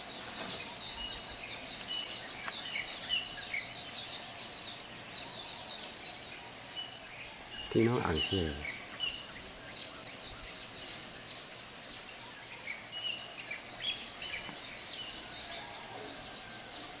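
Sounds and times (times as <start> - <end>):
birds chirping and twittering: 0.0 - 17.0
steady background hiss: 0.0 - 17.0.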